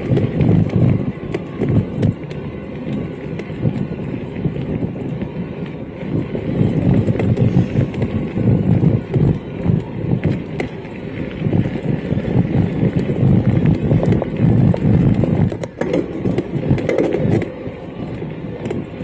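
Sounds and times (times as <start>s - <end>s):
bike tyres rumbling on rough trail: 0.0s - 19.0s.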